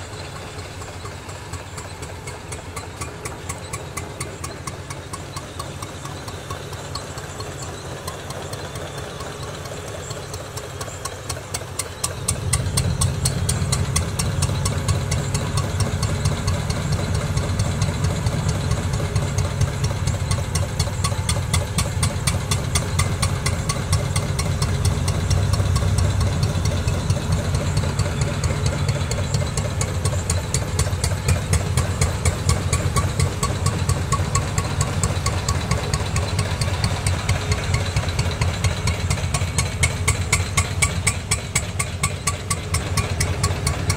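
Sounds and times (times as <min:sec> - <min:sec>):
single-cylinder engine running: 0:00.0 - 0:43.9.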